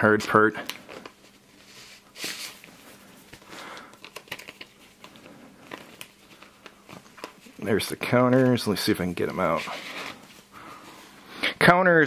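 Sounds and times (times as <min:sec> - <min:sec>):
plastic wrap crinkling: 0:00.0 - 0:10.3.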